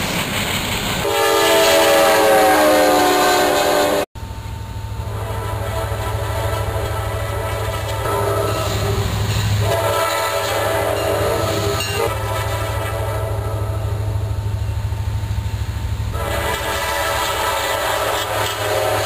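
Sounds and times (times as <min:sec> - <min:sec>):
diesel locomotive engine rumble: 0:00.0 - 0:19.0
locomotive horn chord: 0:01.0 - 0:04.1, 0:05.0 - 0:14.6, 0:16.1 - 0:19.0.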